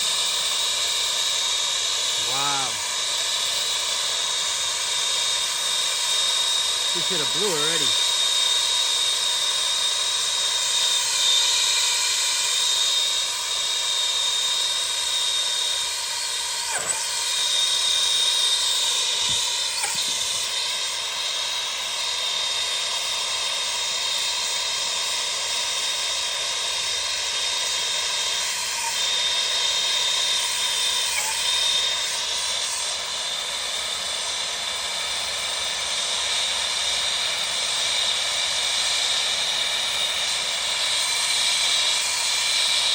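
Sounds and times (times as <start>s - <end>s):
gas torch flame roaring: 0.0s - 42.9s.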